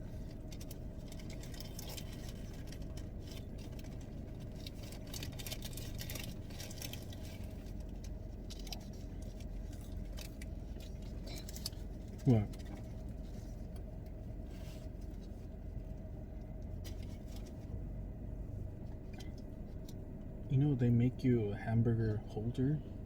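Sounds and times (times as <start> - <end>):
car cabin engine hum: 0.0 - 23.0.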